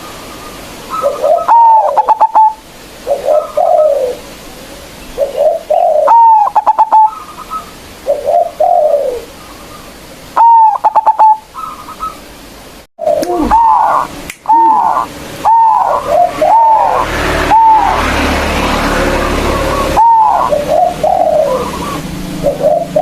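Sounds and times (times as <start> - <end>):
dove cooing song: 0.0 - 12.2, 13.0 - 23.0.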